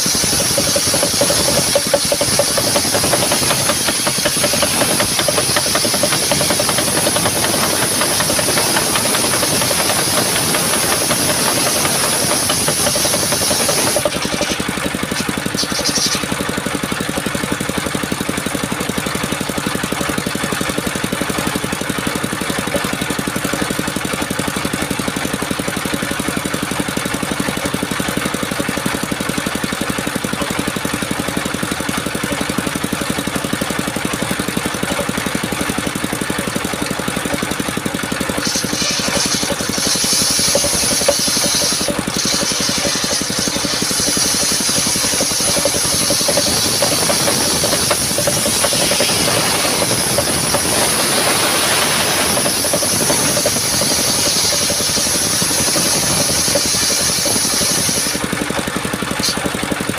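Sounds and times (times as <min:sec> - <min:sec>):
saw blade cutting wood: 0:00.0 - 0:17.3, 0:26.2 - 0:59.6
engine running: 0:00.0 - 0:59.9.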